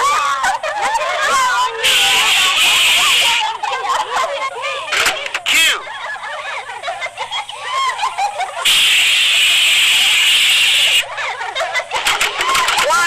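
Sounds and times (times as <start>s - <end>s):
loud steady hiss: 0.0s - 13.0s.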